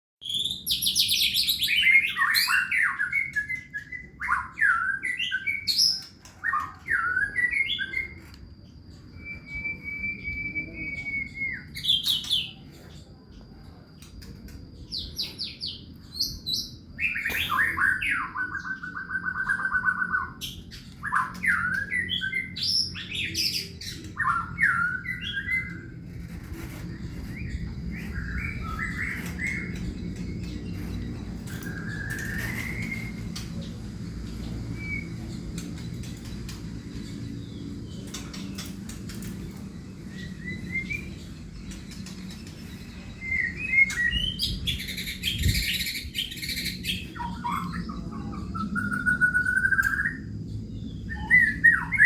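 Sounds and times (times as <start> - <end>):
songbird singing: 0.2 - 52.0.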